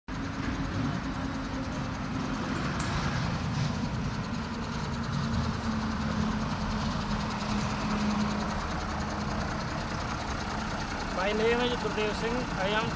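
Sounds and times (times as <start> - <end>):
diesel truck engine idling: 0.1 - 12.9.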